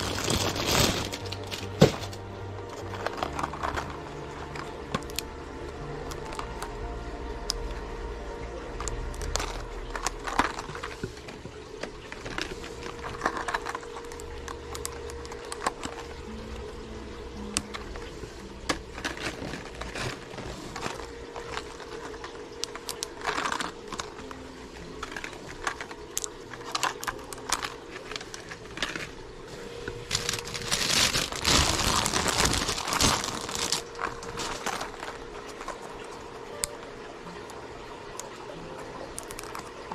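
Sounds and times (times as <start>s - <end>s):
plastic packages clicking and tapping: 0.0s - 5.3s, 6.0s - 7.7s, 8.7s - 29.3s, 29.9s - 36.8s, 39.0s - 39.9s
crinkling plastic: 0.0s - 7.9s, 8.6s - 39.9s.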